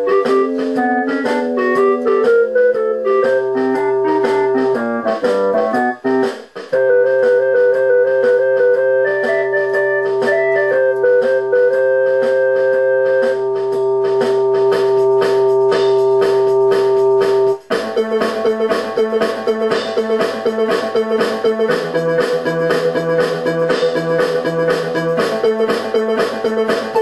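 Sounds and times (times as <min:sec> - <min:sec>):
organ-like keyboard music with beat: 0:00.0 - 0:27.0.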